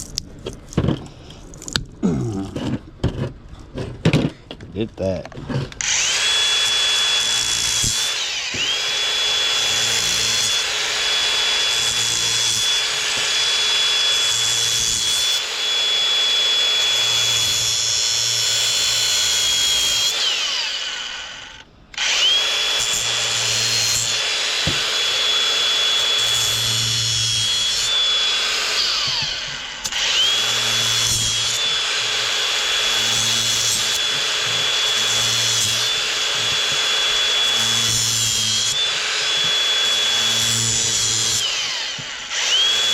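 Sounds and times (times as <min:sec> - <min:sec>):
power tool motor whining: 0:05.7 - 0:42.9.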